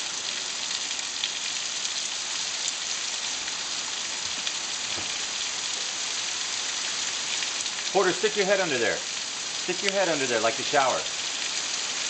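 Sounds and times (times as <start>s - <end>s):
heavy rain on patio and plants: 0.0s - 12.0s.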